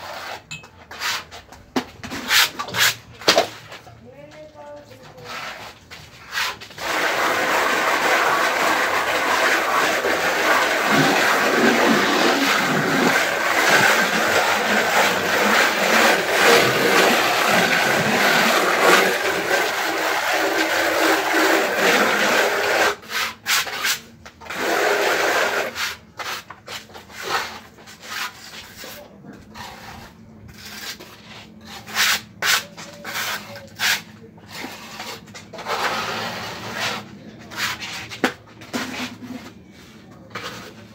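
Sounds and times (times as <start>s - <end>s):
float scraping gritty render: 0.0s - 40.9s.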